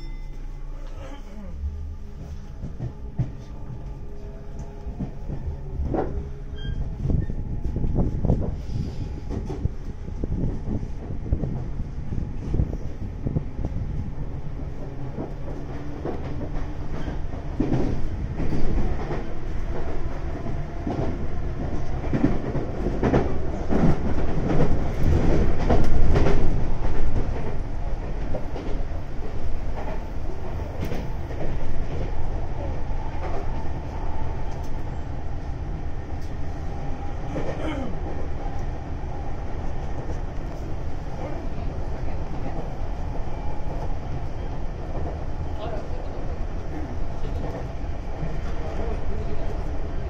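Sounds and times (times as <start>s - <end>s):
train wheels rumbling on rail: 0.4s - 50.0s.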